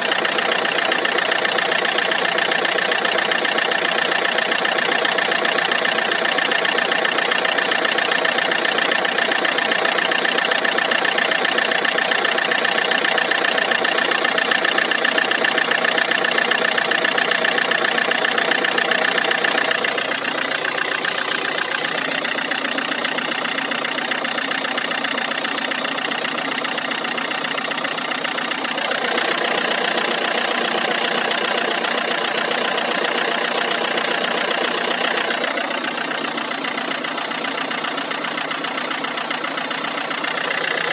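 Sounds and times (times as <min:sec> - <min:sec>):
diesel engine idling with knock: 0:00.0 - 0:40.9.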